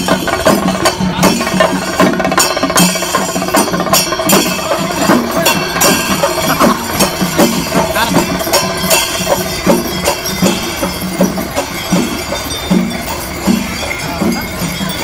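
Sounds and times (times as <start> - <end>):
drums beating: 0.0 - 15.0
hand cymbals clinking: 0.0 - 15.0.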